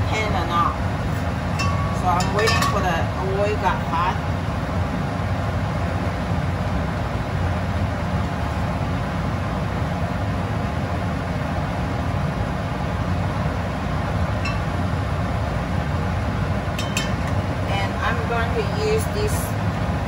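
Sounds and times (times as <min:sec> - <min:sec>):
range hood fan drone: 0:00.0 - 0:20.0.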